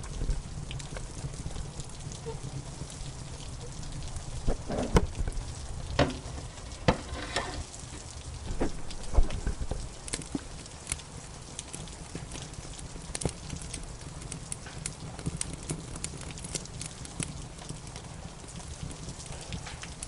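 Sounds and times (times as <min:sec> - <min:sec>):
rain rushing: 0:00.0 - 0:20.0
wood fire crackling and popping: 0:00.0 - 0:20.0.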